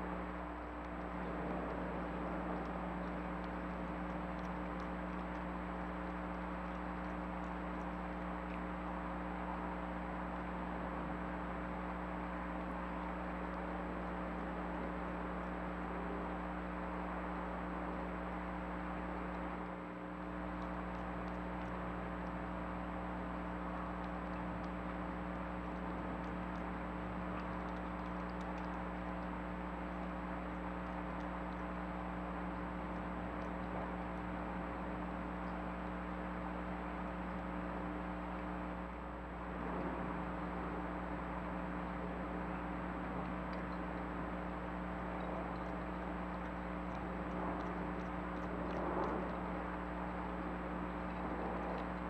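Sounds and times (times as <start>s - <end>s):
faint ticks: 0.0s - 40.0s, 41.1s - 52.0s
electrical hum and whine: 0.0s - 52.0s.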